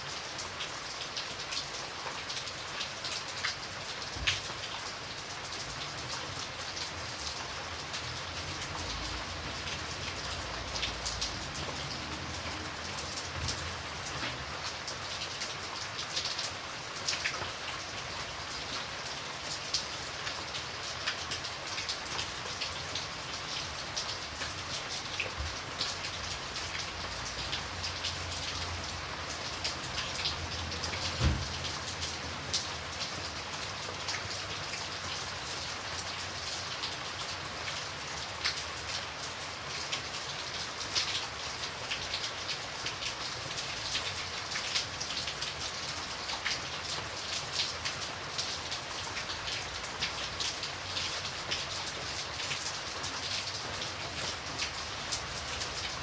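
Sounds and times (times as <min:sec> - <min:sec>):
raindrops pattering: 0:00.0 - 0:56.0.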